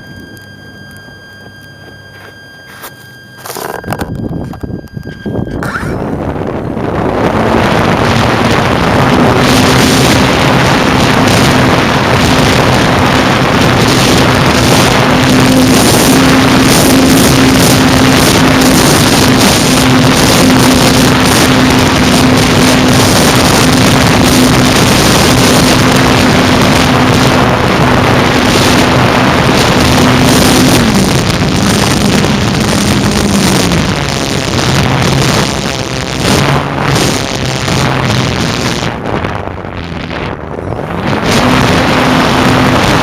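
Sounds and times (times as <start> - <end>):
model plane motor humming: 3.4 - 43.0
wind rush on microphone: 3.5 - 43.0.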